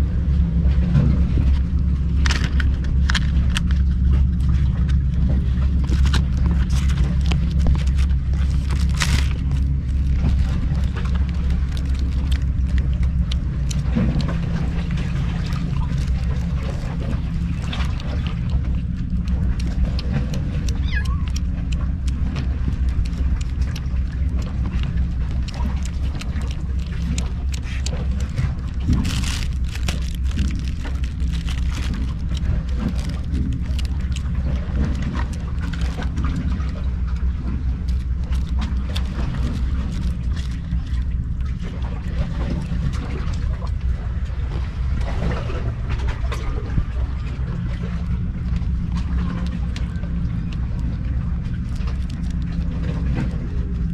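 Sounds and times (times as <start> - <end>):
kittens chewing and lapping: 0.0 - 53.9
steady low hum: 0.0 - 53.9.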